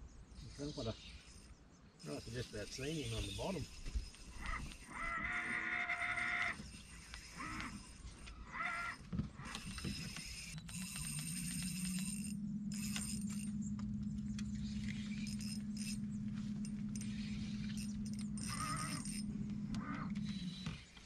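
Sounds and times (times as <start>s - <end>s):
electric trolling motor hum: 1.0s - 21.0s
spinning reel whirring: 1.0s - 21.0s.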